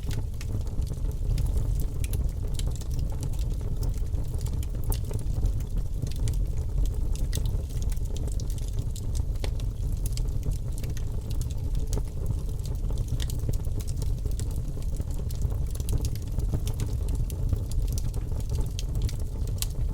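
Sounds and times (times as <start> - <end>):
fire crackling and popping: 0.0 - 19.9
low rumble of flames: 0.0 - 19.9.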